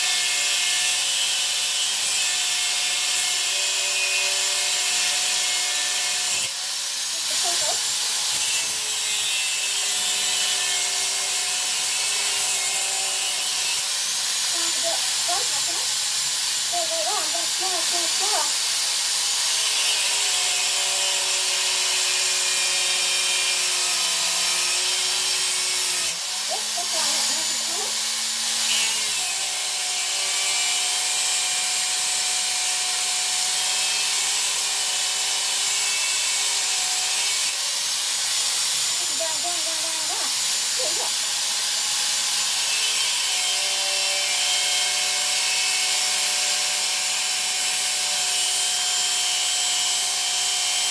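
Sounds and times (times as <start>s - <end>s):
power tool cutting hiss: 0.0s - 50.9s.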